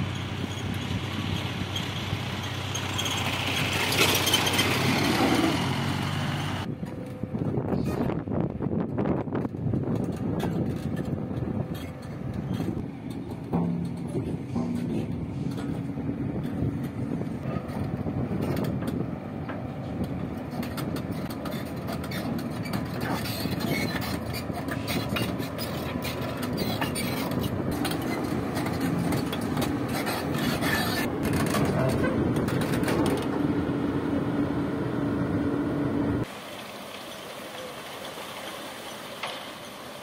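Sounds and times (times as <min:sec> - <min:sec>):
excavator diesel engine running: 0:00.0 - 0:07.8, 0:10.2 - 0:36.3
track links clanking: 0:00.0 - 0:36.2.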